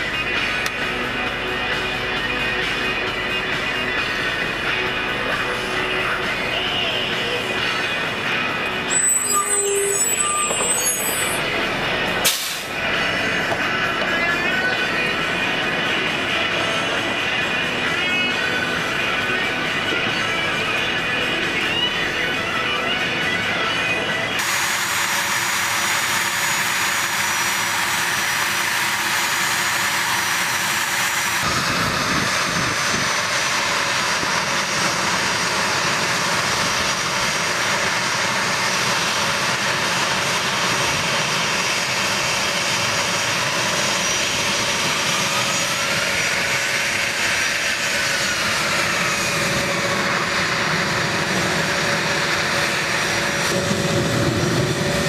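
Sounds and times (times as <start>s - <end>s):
rising and falling whine: 0.0s - 55.0s
jet engines rushing: 9.8s - 55.0s.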